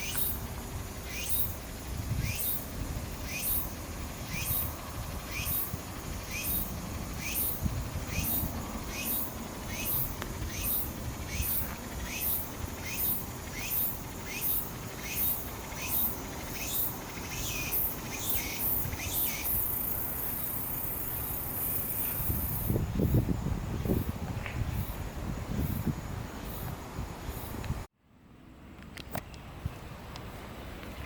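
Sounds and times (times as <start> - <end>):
insect calling high buzz: 0.0 - 27.8.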